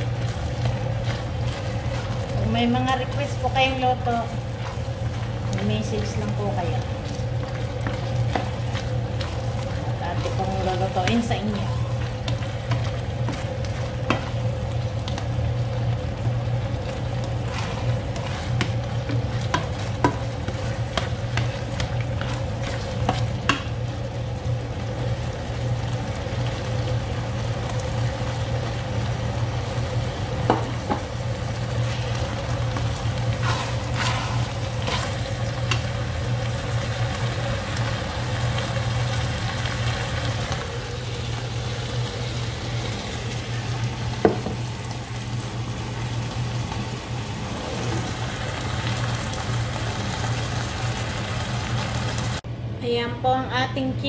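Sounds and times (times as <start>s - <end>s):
sauce sizzling in a pan: 0.0s - 52.4s.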